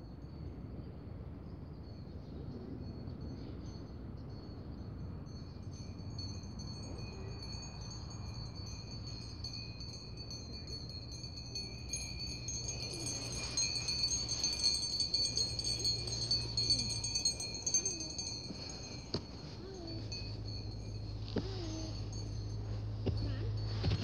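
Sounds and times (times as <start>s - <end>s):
small metal bells ringing: 1.8s - 24.0s.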